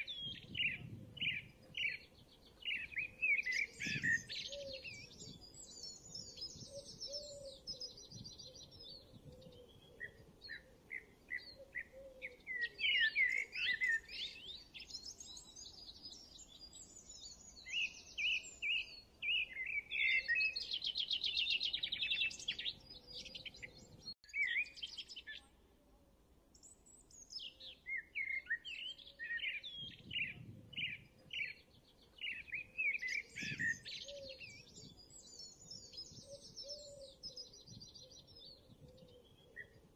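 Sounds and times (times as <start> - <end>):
songbirds chirping and singing: 0.0 - 25.5, 26.6 - 39.9.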